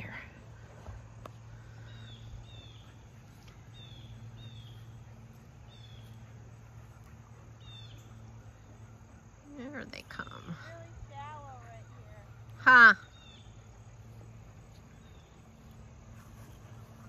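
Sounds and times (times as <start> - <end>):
low hum of outdoor background: 0.0 - 17.0
small bird chirping: 1.6 - 17.0.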